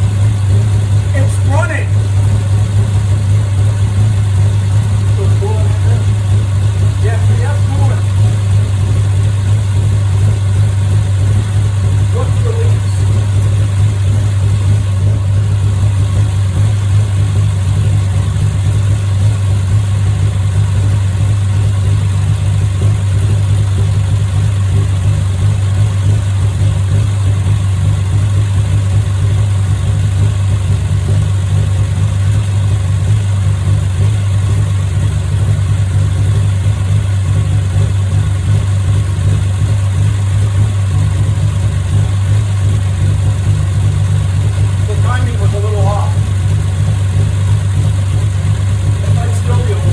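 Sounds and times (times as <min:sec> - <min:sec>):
car engine running steadily: 0:00.0 - 0:49.9.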